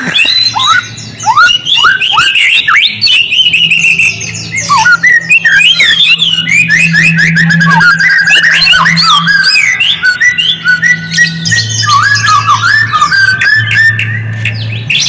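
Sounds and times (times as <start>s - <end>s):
songbird whistled song: 0.0s - 15.0s.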